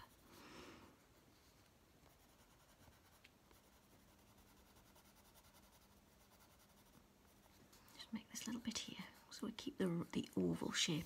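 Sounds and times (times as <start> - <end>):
pencil scratching on paper: 1.0 - 11.0.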